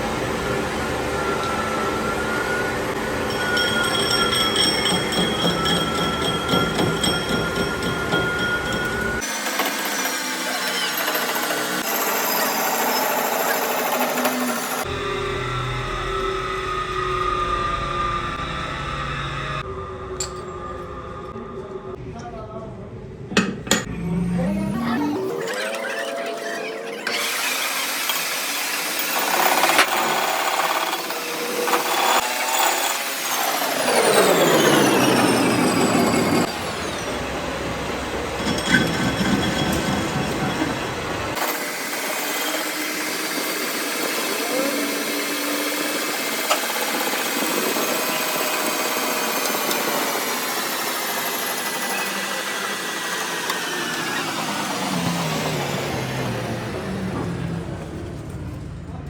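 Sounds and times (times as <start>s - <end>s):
workshop machinery whining: 0.0s - 59.0s
power tool grinding metal: 2.5s - 16.4s, 23.7s - 57.6s.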